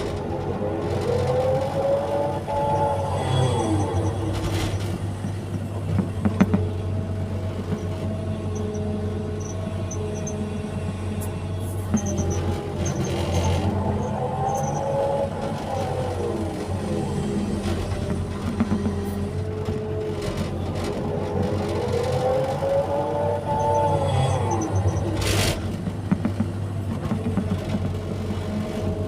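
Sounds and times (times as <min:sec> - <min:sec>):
excavator diesel engine droning: 0:00.0 - 0:29.0.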